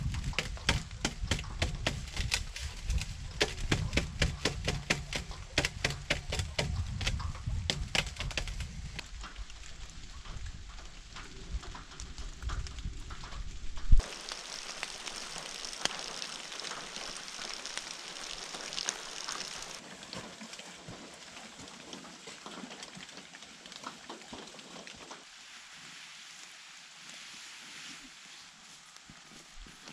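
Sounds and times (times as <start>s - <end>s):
rain falling on leaves: 0.0s - 29.9s.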